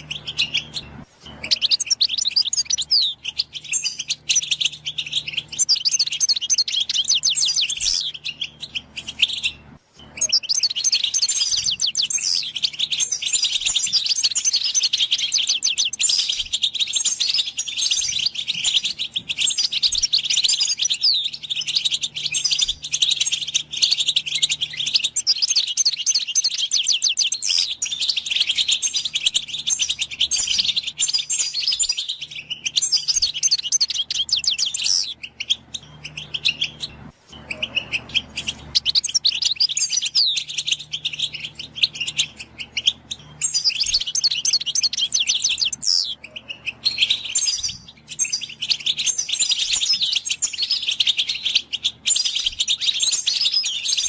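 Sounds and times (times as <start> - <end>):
goldfinch twittering song: 0.0 - 54.0.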